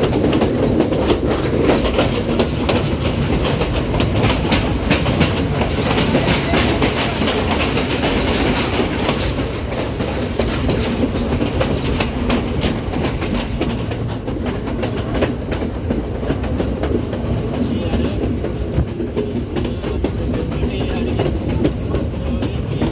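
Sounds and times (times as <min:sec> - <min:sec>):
train rumble: 0:00.0 - 0:22.9
wheels clattering over rail joints: 0:00.0 - 0:22.9.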